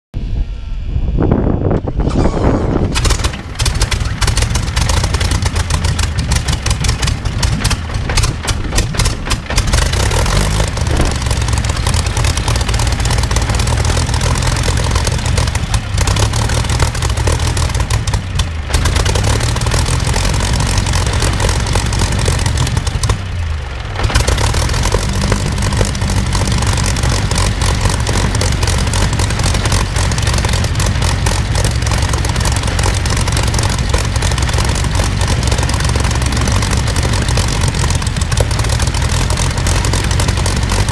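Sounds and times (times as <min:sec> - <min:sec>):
aero engine running: 0:00.2 - 0:40.9
propeller turning: 0:00.9 - 0:40.9.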